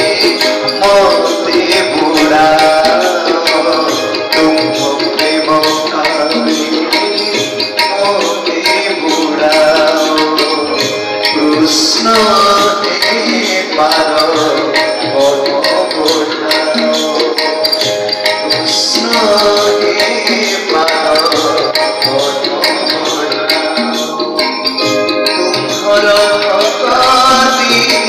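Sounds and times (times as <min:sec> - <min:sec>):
keyboard melody: 0:00.0 - 0:28.0
steady drumming: 0:00.0 - 0:28.0.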